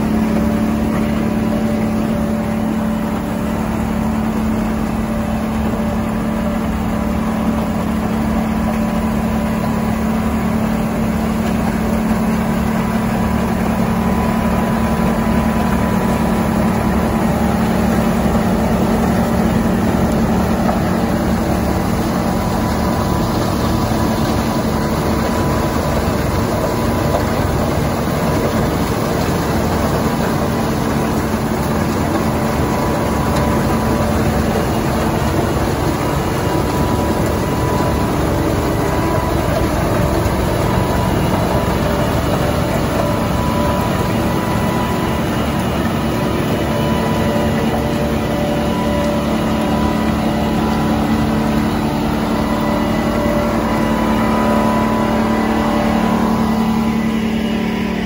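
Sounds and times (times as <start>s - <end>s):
snowblower engine droning: 0.0s - 58.0s
truck diesel engine: 0.0s - 58.0s.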